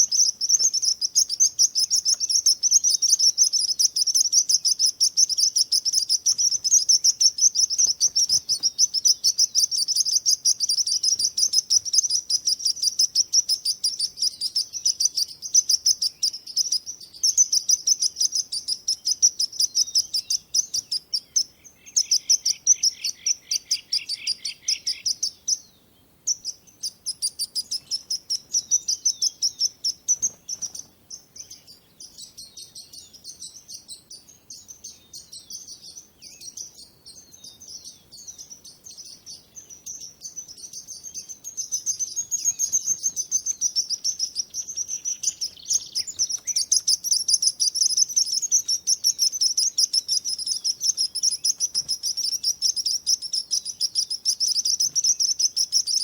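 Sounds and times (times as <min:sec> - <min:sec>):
lower-pitched bird chirps: 0:00.0 - 0:56.0
small birds chirping: 0:00.0 - 0:56.0.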